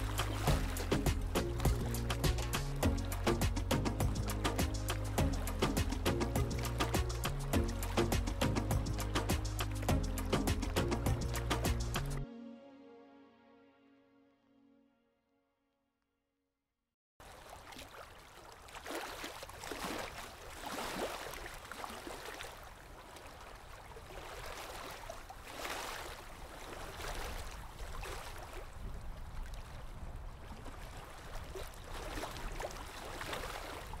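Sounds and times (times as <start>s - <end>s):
rushing wind and water: 0.0s - 12.2s, 17.2s - 34.0s.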